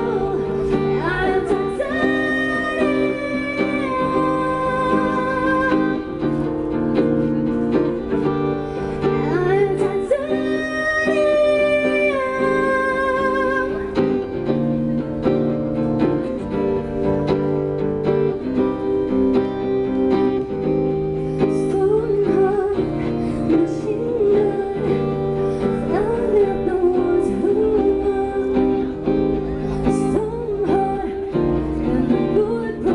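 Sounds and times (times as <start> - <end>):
woman singing: 0.0 - 14.8, 18.4 - 32.9
acoustic guitar playing: 0.0 - 32.9.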